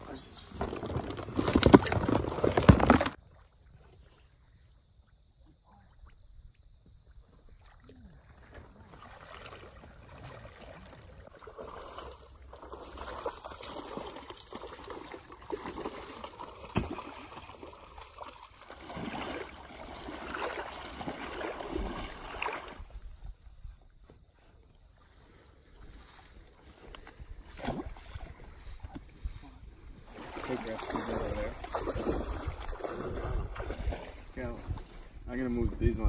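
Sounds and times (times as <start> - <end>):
water splashing and trickling: 5.6 - 23.4, 24.5 - 36.0.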